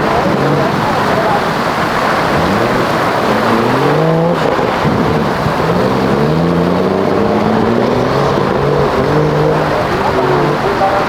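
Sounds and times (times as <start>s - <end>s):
heavy rain hissing: 0.0s - 11.0s
off-road vehicle engine revving: 0.0s - 11.0s.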